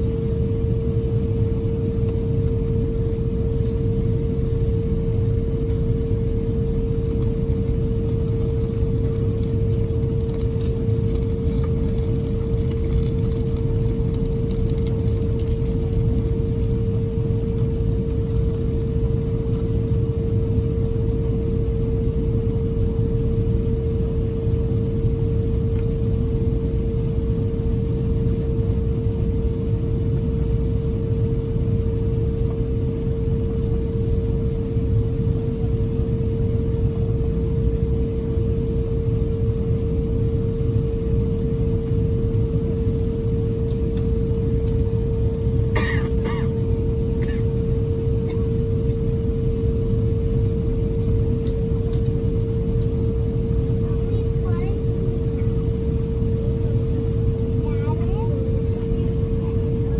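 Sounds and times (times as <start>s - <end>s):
airplane cabin roar: 0.0s - 59.9s
constant humming tone: 0.0s - 59.9s.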